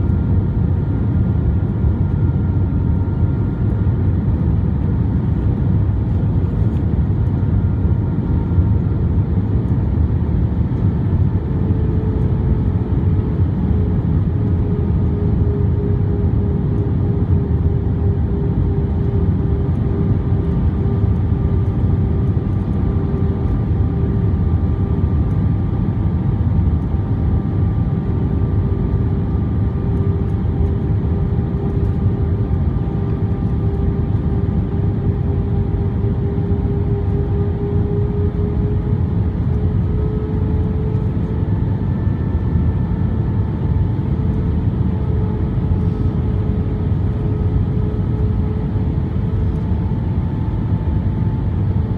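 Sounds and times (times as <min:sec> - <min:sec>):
engine whine: 0:00.0 - 0:51.9
jet engine and airflow roar: 0:00.0 - 0:51.9.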